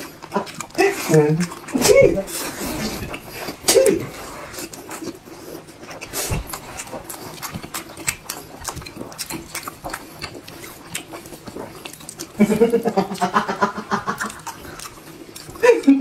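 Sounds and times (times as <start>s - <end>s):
chewing and lip smacking: 0.0s - 16.0s.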